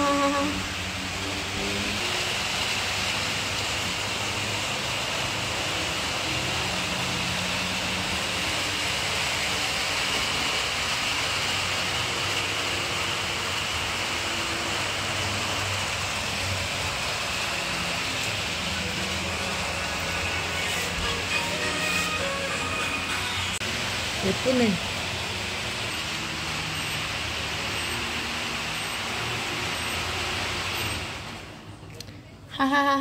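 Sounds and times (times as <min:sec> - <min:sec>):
model trains whirring on track: 0:00.0 - 0:32.0.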